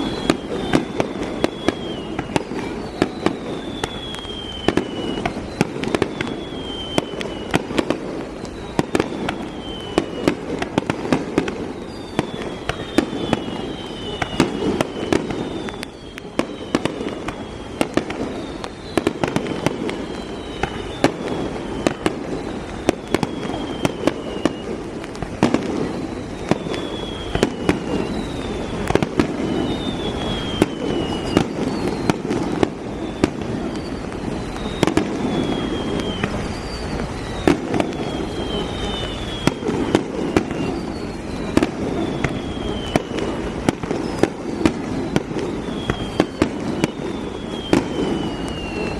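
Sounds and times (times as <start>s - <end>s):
falling firework whistles: 0.0s - 48.9s
fireworks bangs: 0.0s - 48.9s.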